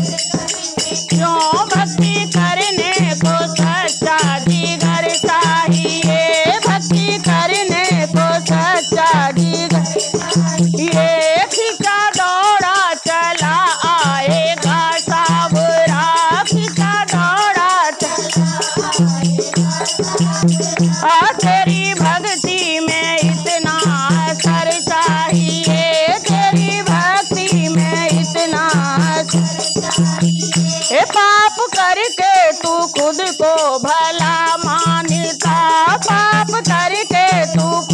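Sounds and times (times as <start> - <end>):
hand drum beating: 0.0 - 37.9
hand rattles shaking: 0.0 - 37.9
women singing devotional song: 0.0 - 37.9.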